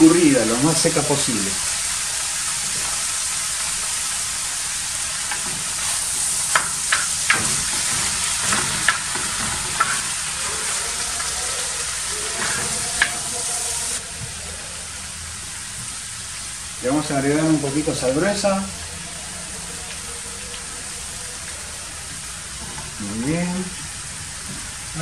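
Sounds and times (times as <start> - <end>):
filling sizzling in a frying pan: 0.0 - 25.0.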